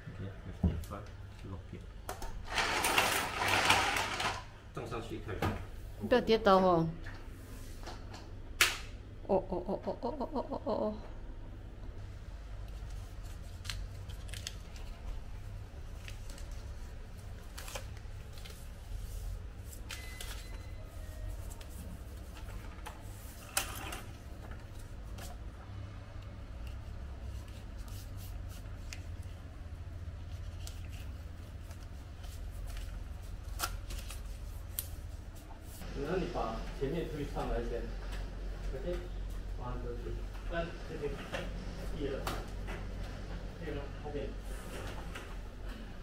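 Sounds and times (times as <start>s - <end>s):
steady low hum: 4.5s - 46.0s.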